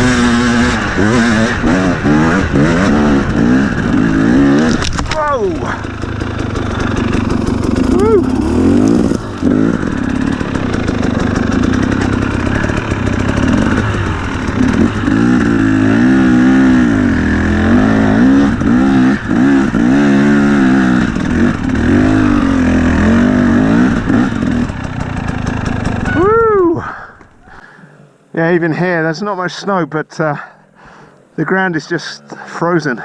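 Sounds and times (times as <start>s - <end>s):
two-stroke motorcycle engine revving: 0.0s - 27.0s.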